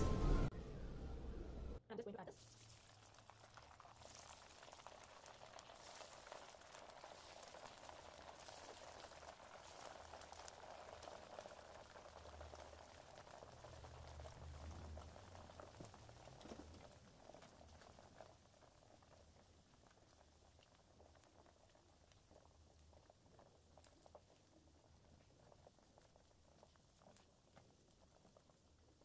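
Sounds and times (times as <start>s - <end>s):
food deep-frying in oil: 2.2s - 29.0s.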